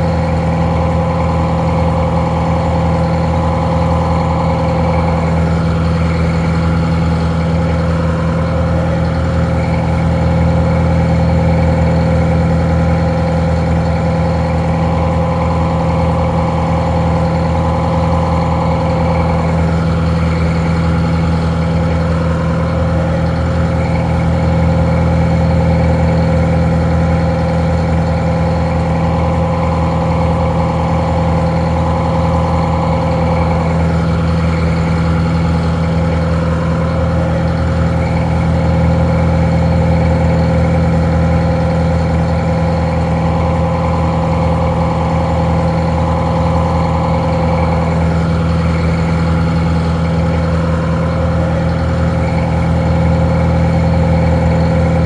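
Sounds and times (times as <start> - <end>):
diesel engine idling: 0.0 - 55.0
engine whine: 0.0 - 55.0.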